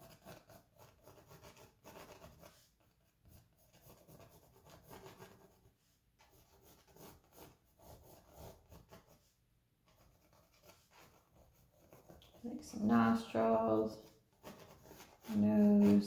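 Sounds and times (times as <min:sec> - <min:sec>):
pencil scratching on canvas: 0:00.0 - 0:16.0.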